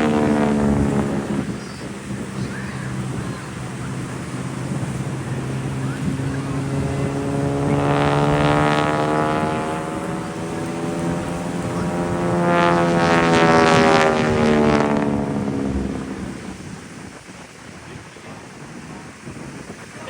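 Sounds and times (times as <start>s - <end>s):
propeller airplane flying past: 0.0s - 17.5s.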